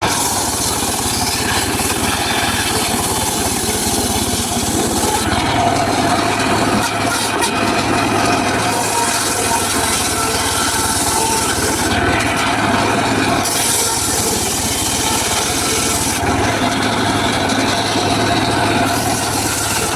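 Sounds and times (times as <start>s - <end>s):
circular saw cutting wood: 0.0s - 19.9s
machine hum: 0.0s - 19.9s.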